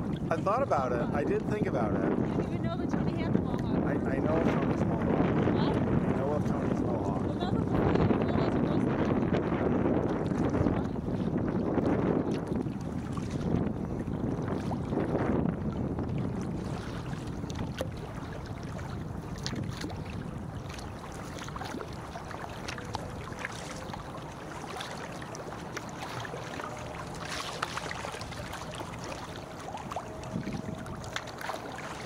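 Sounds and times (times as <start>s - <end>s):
water lapping and splashing: 0.0s - 32.0s
wind noise on microphone: 0.0s - 32.0s.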